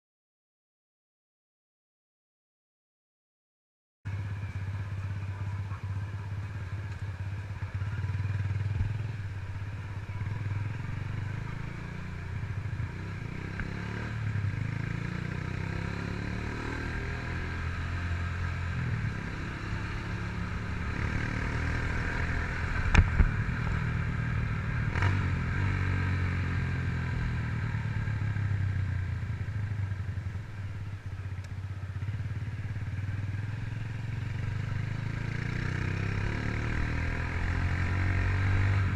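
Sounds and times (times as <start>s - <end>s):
motorcycle engine revving: 4.1s - 38.9s.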